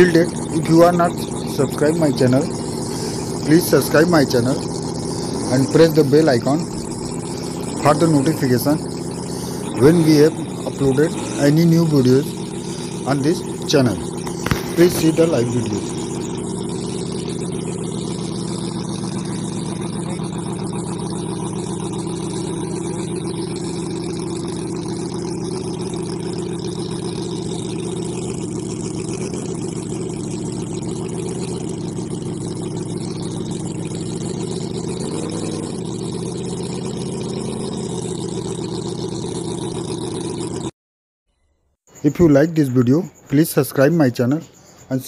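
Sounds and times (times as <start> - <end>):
model engine running steadily: 0.0 - 40.7.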